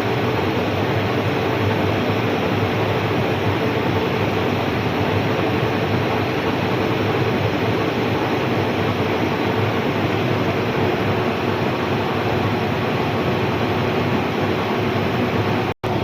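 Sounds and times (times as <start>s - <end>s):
lathe humming and whirring: 0.0s - 16.0s.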